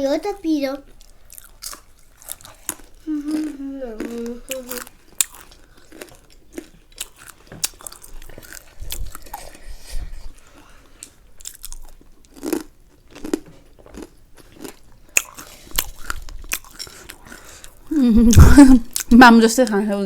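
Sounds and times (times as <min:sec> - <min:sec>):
person chewing crunchy snack: 0:00.9 - 0:19.1.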